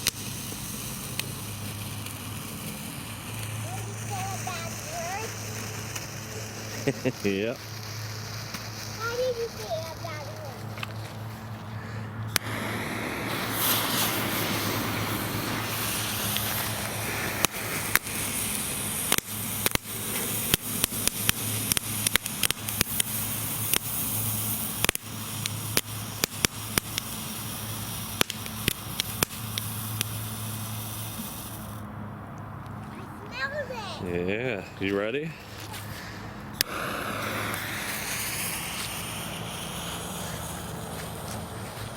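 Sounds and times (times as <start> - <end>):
firework crackles: 0.0 - 41.9
firework sparks hissing: 0.0 - 41.9.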